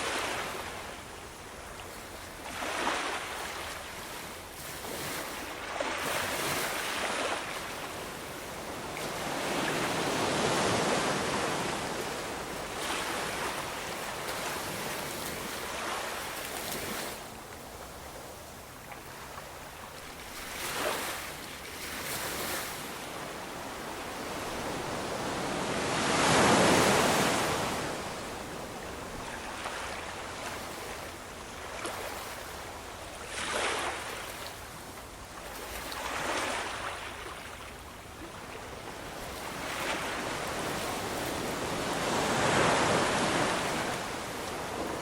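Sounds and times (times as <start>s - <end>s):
ocean waves breaking on shore: 0.0s - 45.0s.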